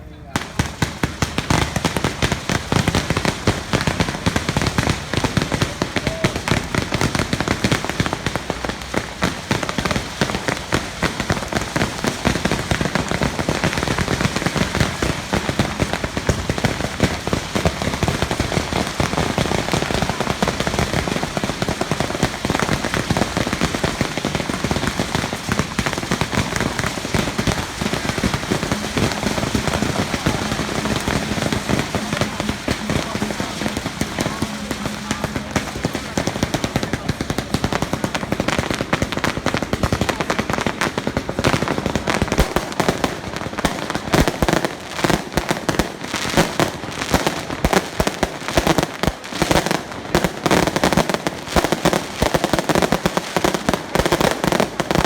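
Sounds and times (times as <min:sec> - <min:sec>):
firecrackers crackling: 0:00.0 - 0:55.0.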